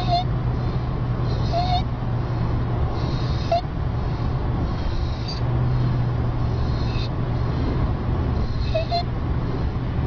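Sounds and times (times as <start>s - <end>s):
high-pitched squeaky breathing: 0.0s - 7.6s, 8.4s - 9.1s
steady low hum: 0.0s - 10.0s.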